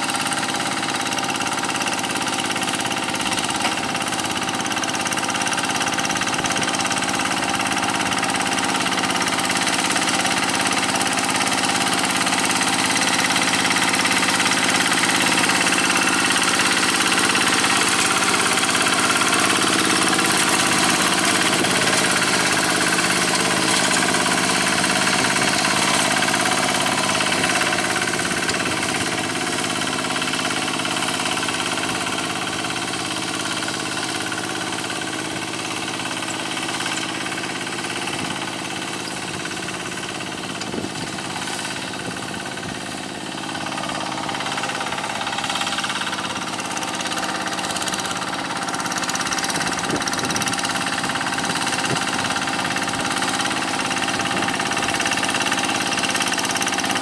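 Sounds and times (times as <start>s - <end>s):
diesel hand tractor engine running: 0.0s - 57.0s.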